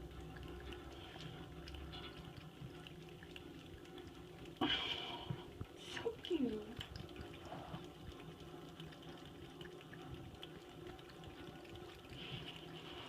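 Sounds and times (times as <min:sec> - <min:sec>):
faucet running: 0:00.0 - 0:13.0.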